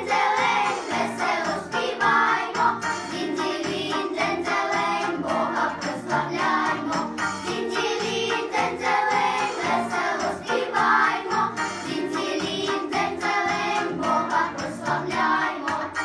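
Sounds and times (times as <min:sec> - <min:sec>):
instrumental accompaniment with beat: 0:00.0 - 0:16.0
vocal ensemble singing in parts: 0:00.0 - 0:16.0.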